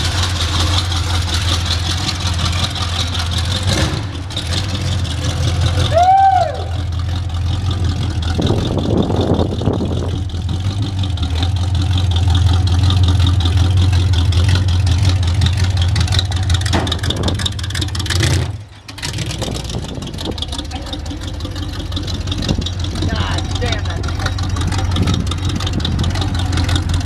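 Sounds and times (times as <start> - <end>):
truck engine droning: 0.0 - 27.0
tyres on gravel: 0.0 - 27.0.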